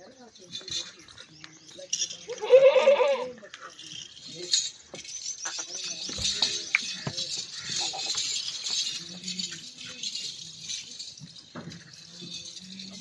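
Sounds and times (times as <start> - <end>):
high-pitched chirping and jingling: 0.0 - 13.0.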